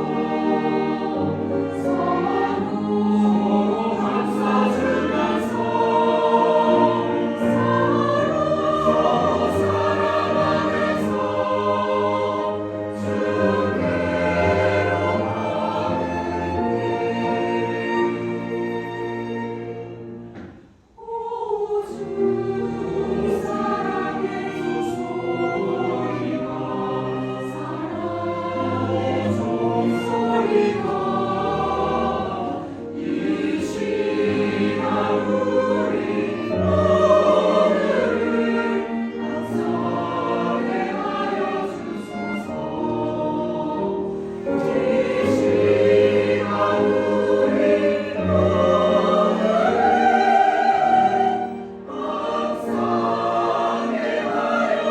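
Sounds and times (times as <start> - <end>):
cello: 0.0 - 54.9
choir singing a hymn: 0.0 - 54.9
piano: 0.0 - 54.9
violin: 0.0 - 54.9.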